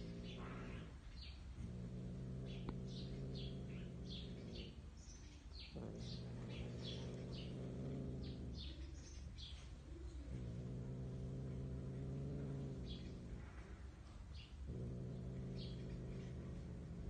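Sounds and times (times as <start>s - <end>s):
cat growling: 0.0s - 17.0s
small birds chirping: 0.0s - 17.0s.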